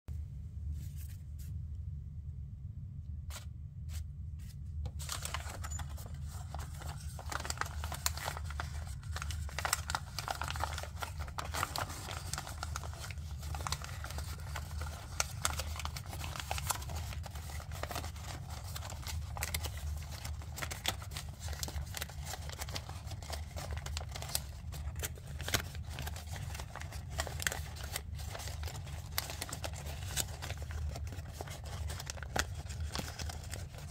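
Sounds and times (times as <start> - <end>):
paper crinkling: 3.3 - 33.9.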